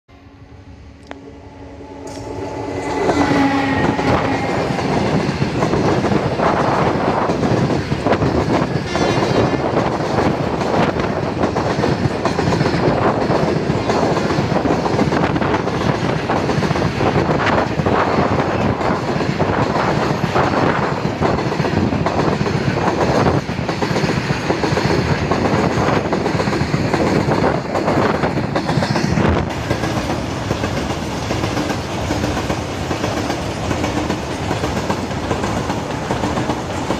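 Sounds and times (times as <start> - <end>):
wheels rumbling on rails: 0.1 - 36.9.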